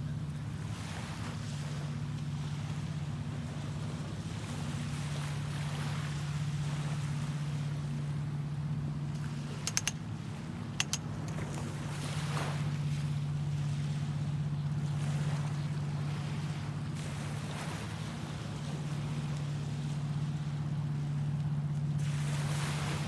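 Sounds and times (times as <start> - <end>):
small waves washing onto beach: 0.0 - 8.3, 9.0 - 23.0
steady low hum: 0.0 - 23.0.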